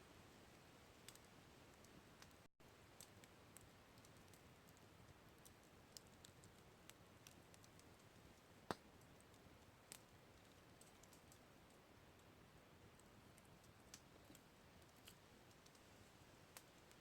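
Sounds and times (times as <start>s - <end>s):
campfire crackling and popping: 1.0s - 15.9s, 16.5s - 17.0s.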